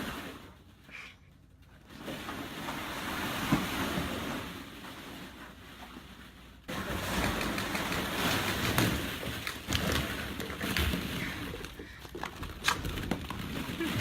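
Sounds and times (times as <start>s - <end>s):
plastic balls rustling and clattering: 0.0s - 14.0s.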